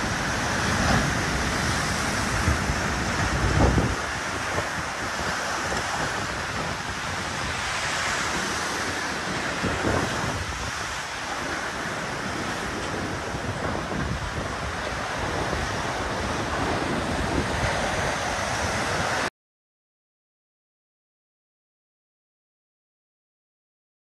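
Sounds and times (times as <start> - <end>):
seawater rushing ashore: 0.0 - 19.3
wind buffeting microphone: 0.0 - 19.3.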